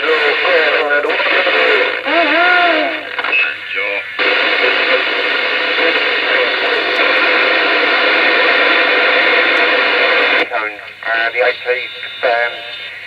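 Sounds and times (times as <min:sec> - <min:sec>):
radio static: 0:00.0 - 0:13.0.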